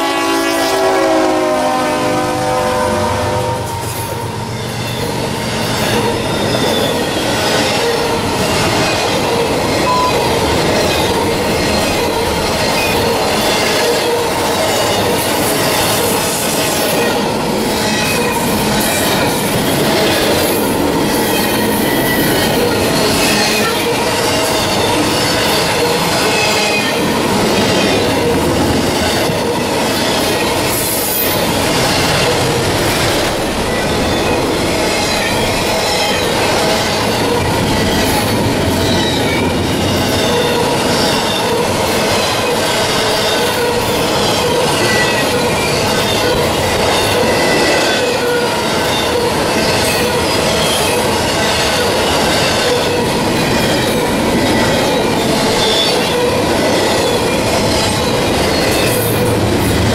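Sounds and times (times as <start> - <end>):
steel wheels rumbling on rail: 0.0 - 59.9
rail clack: 3.0 - 59.9.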